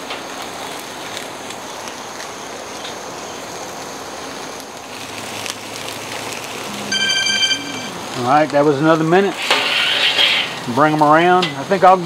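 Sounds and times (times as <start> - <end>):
crackles and pops: 0.0 - 11.4
steaks sizzling on grill: 0.0 - 12.0.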